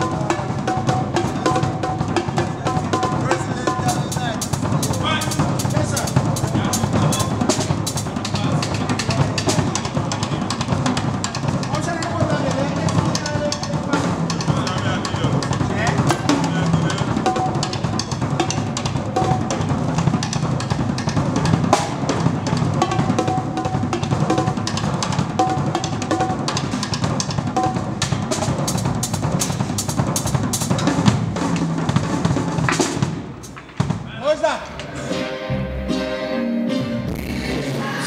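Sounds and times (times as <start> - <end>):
drum kit playing groove: 0.0 - 38.0.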